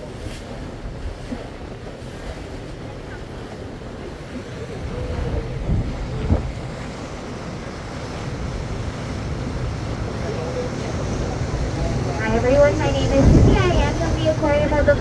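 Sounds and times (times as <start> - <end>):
low boat rumble: 0.0 - 15.0
water rushing past hull: 0.0 - 15.0
wind buffeting microphone: 0.0 - 15.0.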